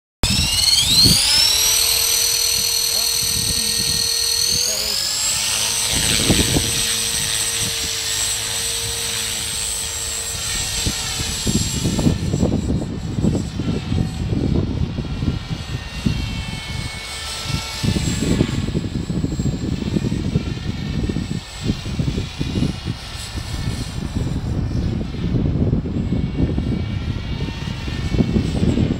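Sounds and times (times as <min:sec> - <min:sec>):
rc helicopter motor whining: 0:00.2 - 0:28.9
wind rumbling on microphone: 0:00.2 - 0:28.9.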